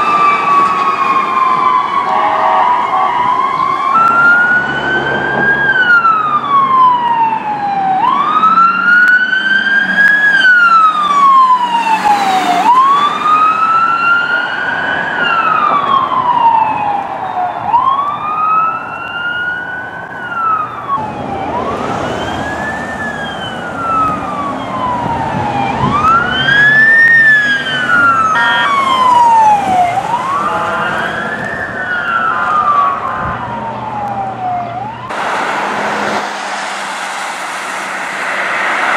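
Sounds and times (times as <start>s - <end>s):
emergency siren wailing: 0.0s - 38.9s
road traffic: 0.0s - 38.9s.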